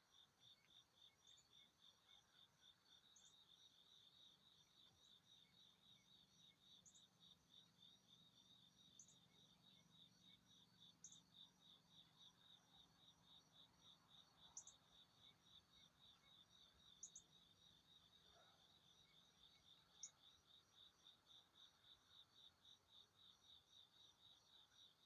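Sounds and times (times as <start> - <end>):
faint cricket-like chirping: 0.0 - 25.0.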